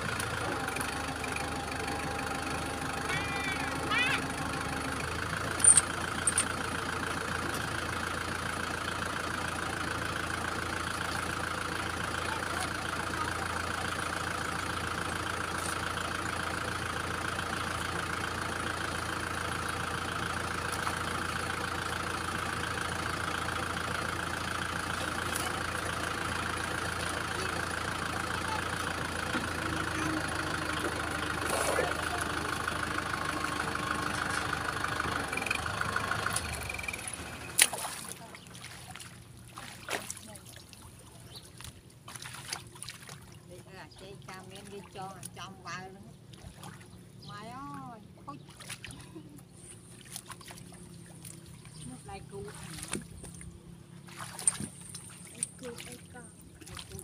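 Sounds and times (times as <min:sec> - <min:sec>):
tractor diesel engine idling: 0:00.0 - 0:39.5, 0:43.3 - 0:57.0.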